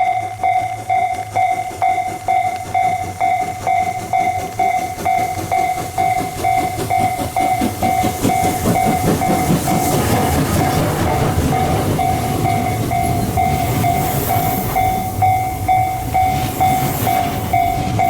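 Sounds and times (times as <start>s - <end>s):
level-crossing bell ringing: 0.0s - 18.0s
steam locomotive exhaust beats: 0.0s - 18.0s
train wheel clatter: 0.0s - 18.0s
steam hiss: 0.2s - 18.0s.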